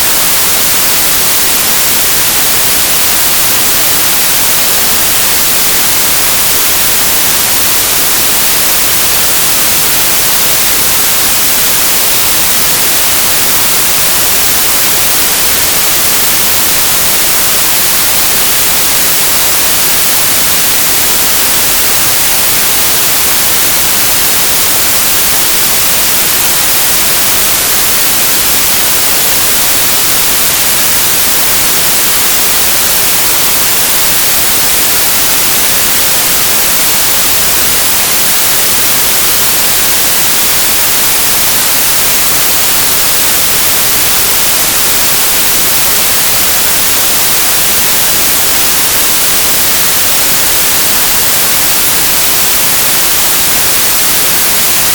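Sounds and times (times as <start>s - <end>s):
white noise hiss: 0.0s - 54.9s.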